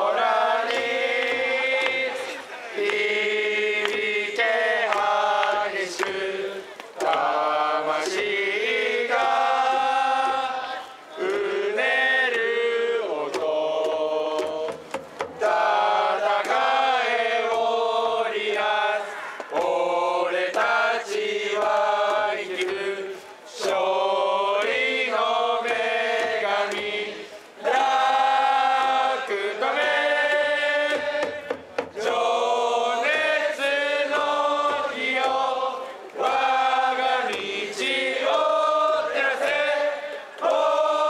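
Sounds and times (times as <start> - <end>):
crowd chanting in unison: 0.0 - 41.0.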